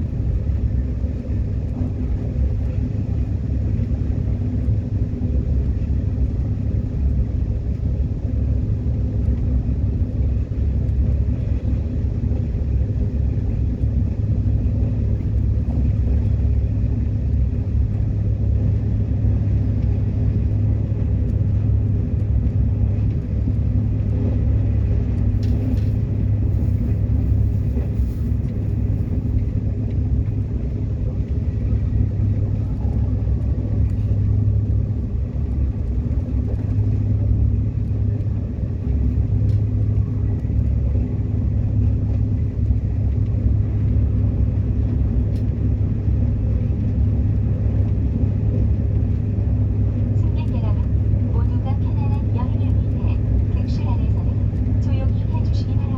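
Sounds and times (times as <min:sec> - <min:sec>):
subway train rumble: 0:00.0 - 0:55.9.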